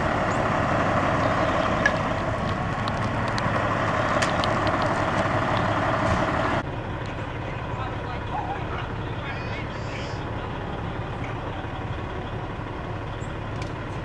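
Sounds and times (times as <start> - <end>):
heavy vehicle engine running: 0.0 - 14.0
passing road traffic: 0.0 - 14.0.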